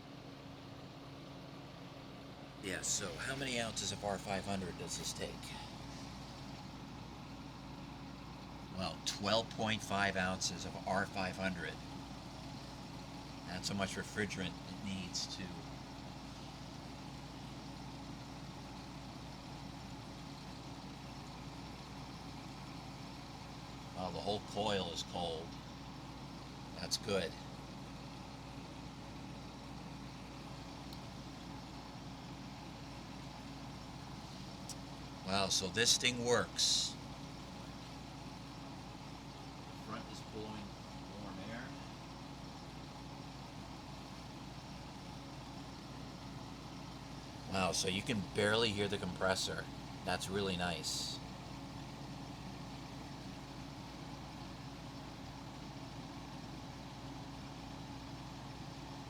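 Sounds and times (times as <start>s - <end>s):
dehumidifier humming: 0.0s - 59.0s.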